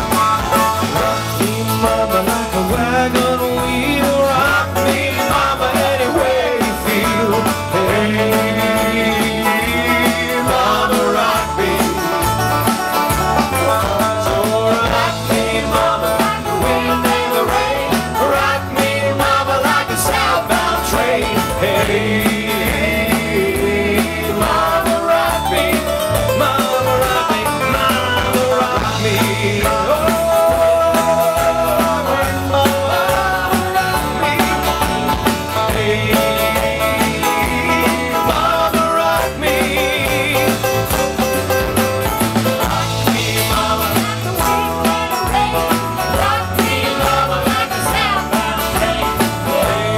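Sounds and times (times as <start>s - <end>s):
strummed acoustic guitars: 0.0s - 49.9s
voices singing together: 0.0s - 49.9s.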